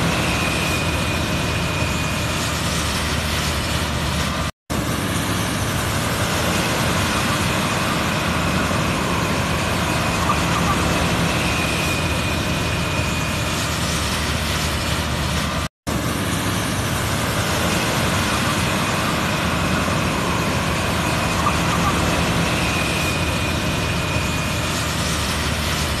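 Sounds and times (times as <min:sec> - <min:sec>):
harvester engine drone: 0:00.0 - 0:26.0.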